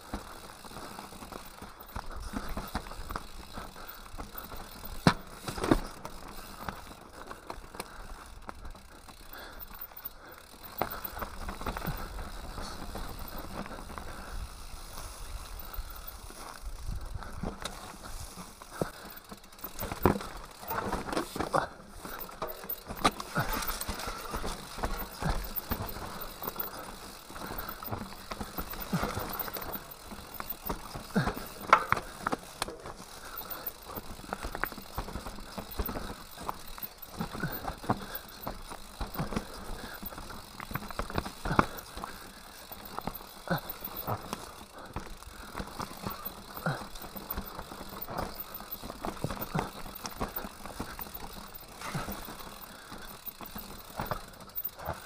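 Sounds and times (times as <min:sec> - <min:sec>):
bike rattling over rocks: 0:00.0 - 0:55.0.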